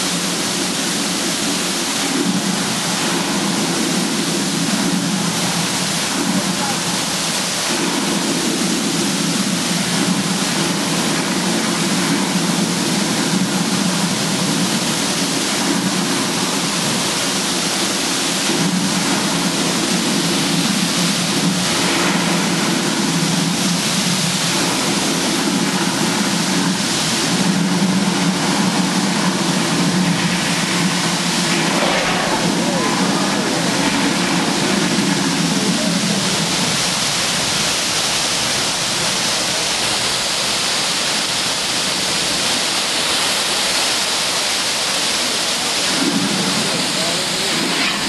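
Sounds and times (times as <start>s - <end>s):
low rumble: 0.0s - 40.1s
loud rushing water: 0.0s - 48.0s.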